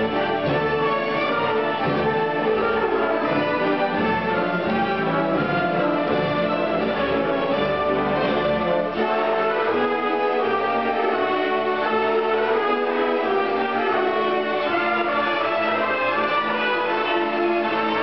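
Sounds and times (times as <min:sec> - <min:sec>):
bowed strings: 0:00.0 - 0:18.0
orchestra playing: 0:00.0 - 0:18.0.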